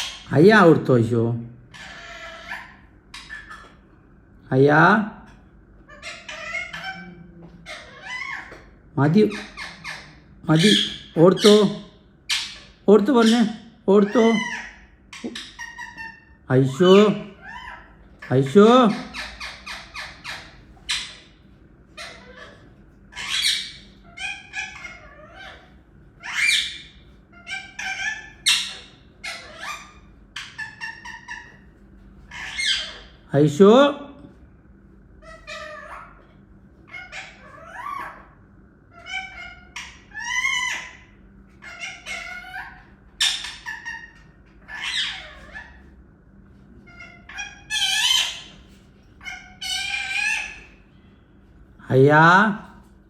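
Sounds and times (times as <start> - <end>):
parrot squawking: 0.0 - 34.3, 35.2 - 52.9.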